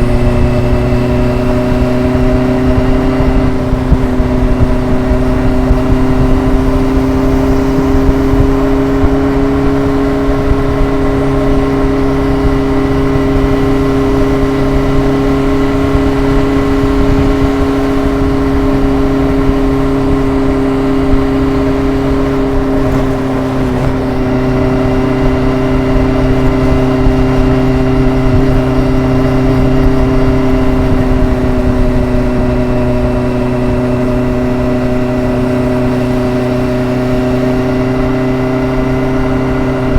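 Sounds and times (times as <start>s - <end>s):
motorcycle engine and exhaust: 0.0s - 39.9s
road and wind noise: 0.0s - 39.9s.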